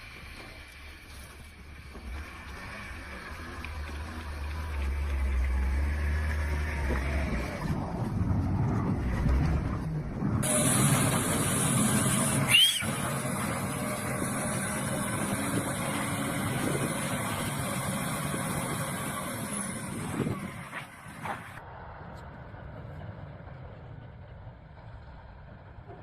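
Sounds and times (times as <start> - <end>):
road vehicle noise: 0.0 - 26.0.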